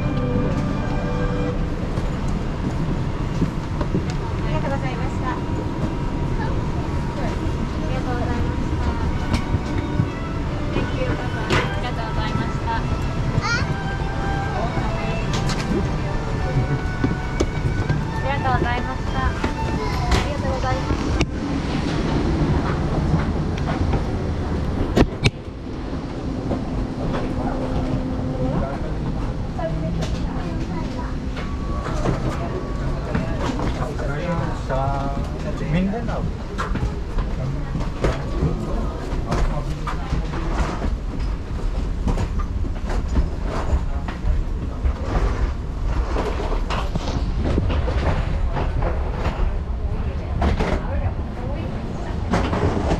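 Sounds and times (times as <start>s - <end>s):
steady low rumble: 0.0s - 52.9s.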